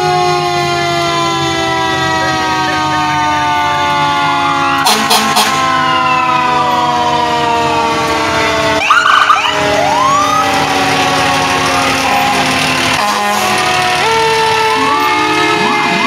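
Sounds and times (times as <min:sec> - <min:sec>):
fire truck sirens wailing: 0:00.0 - 0:16.0
rapid rising and falling siren: 0:00.0 - 0:16.0.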